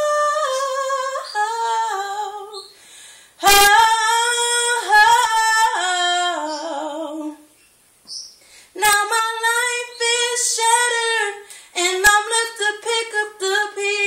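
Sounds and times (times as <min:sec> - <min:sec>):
woman singing wordless notes: 0:00.0 - 0:02.8, 0:03.4 - 0:07.6, 0:08.8 - 0:14.0.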